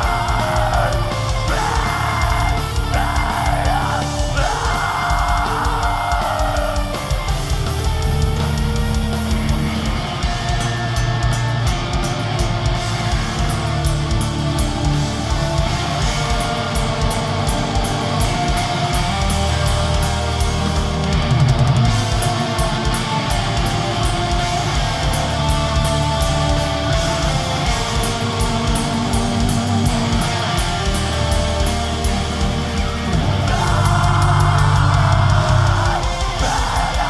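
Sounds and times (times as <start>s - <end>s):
distorted electric guitars: 0.0s - 37.0s
fast drum and cymbal hits: 0.0s - 37.0s.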